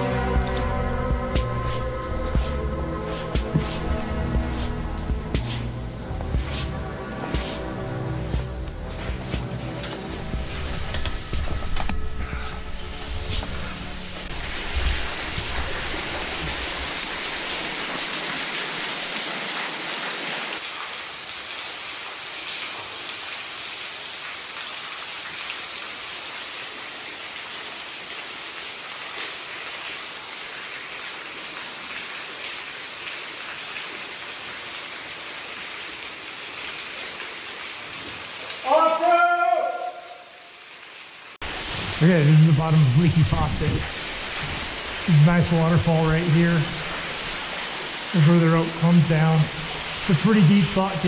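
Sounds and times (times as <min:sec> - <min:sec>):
water spattering in a cave: 0:00.0 - 0:51.0.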